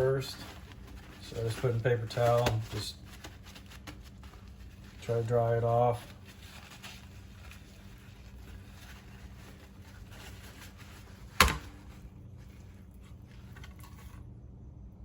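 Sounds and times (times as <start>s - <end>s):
paper towel rustling and dabbing: 0.0s - 14.2s.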